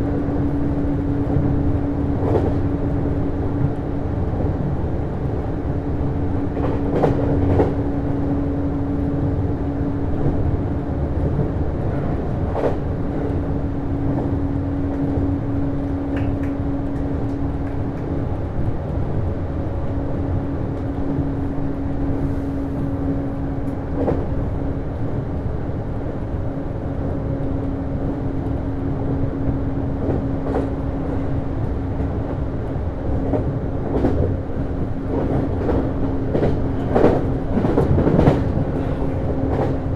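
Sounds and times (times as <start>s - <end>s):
train rolling noise with hum: 0.0s - 39.9s.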